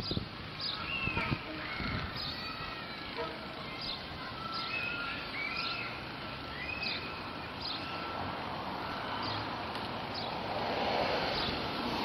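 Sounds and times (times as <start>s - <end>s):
songbirds chirping: 0.0s - 10.6s, 11.2s - 12.0s
outdoor background noise: 0.0s - 12.0s.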